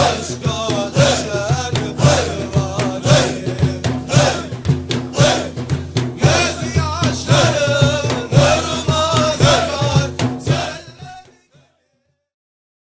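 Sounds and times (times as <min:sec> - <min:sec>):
group voices chanting: 0:00.0 - 0:11.6
steady drum beats: 0:00.0 - 0:11.6
solo voice chanting: 0:00.0 - 0:11.7.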